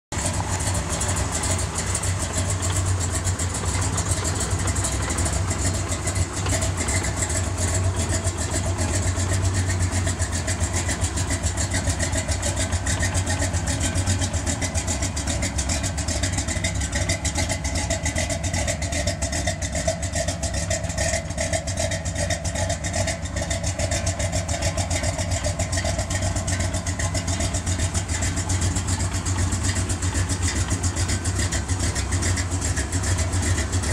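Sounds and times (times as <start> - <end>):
vee eight engine idling: 0.1 - 33.9.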